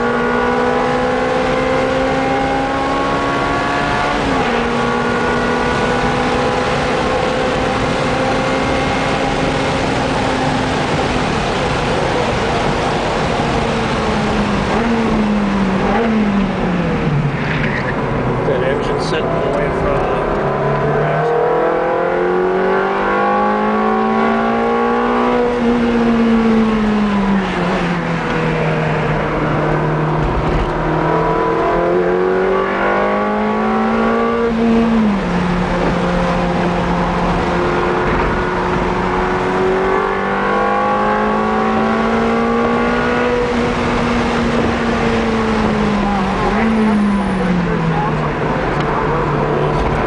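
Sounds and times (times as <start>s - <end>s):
car engine revving in cabin: 0.0s - 50.0s.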